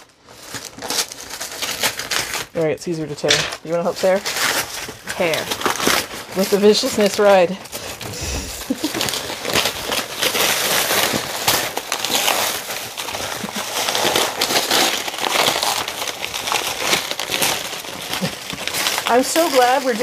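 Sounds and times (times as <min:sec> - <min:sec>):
paper tearing and crumpling: 0:00.0 - 0:20.0.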